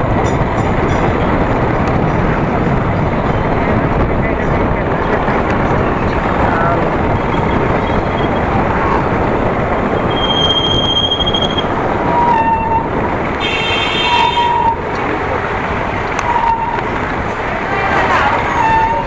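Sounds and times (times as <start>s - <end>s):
motorcycle road rush: 0.0s - 19.0s
wind rushing: 0.0s - 19.0s.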